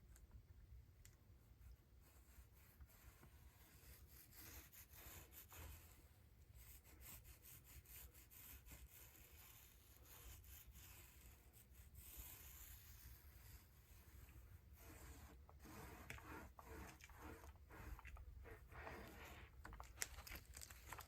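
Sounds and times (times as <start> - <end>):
fiberglass cloth rubbing and scraping: 2.0 - 19.8.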